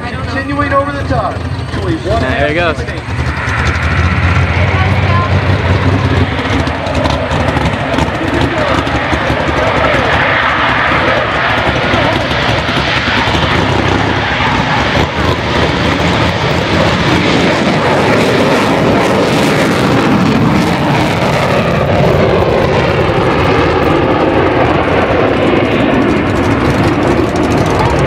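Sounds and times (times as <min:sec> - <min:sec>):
jet aircraft taking off: 0:00.0 - 0:28.0.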